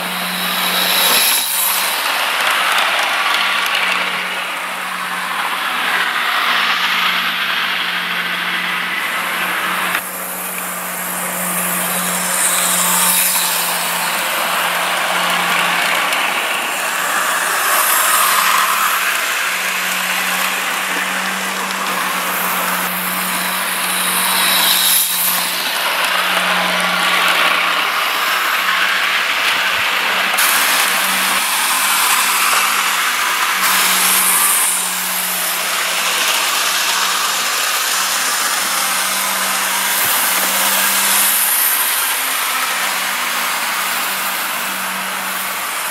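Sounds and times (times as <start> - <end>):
model trains whirring on rails: 0.0 - 45.9.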